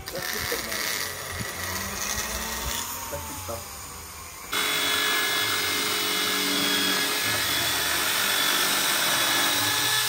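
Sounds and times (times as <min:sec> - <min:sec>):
electric tool grinding metal: 0:00.0 - 0:10.0.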